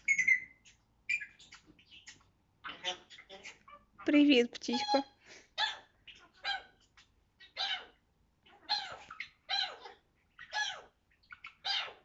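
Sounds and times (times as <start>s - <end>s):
parrot squeaky calls: 0.0s - 12.0s.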